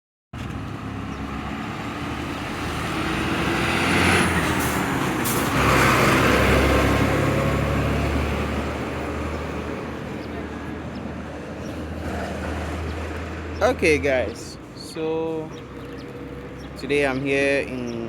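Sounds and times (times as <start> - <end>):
road traffic: 0.4 - 18.0.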